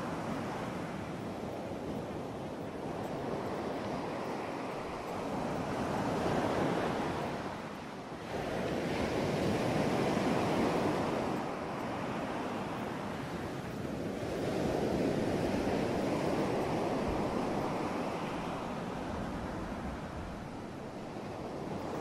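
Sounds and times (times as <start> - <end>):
waves breaking ashore: 0.0 - 22.0.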